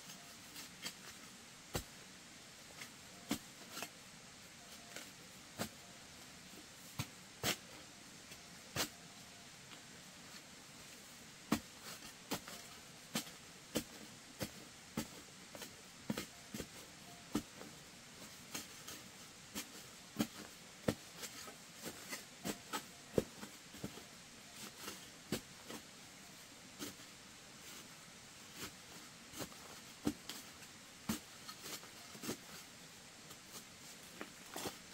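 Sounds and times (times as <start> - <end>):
faint steady hiss: 0.0 - 34.9.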